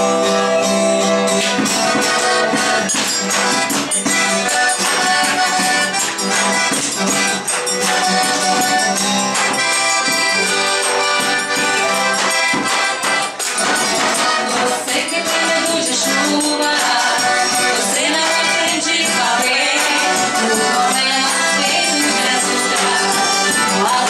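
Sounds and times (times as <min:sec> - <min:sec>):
accordion: 0:00.0 - 0:24.0
acoustic guitar: 0:00.0 - 0:24.0
percussion beat: 0:00.0 - 0:24.0.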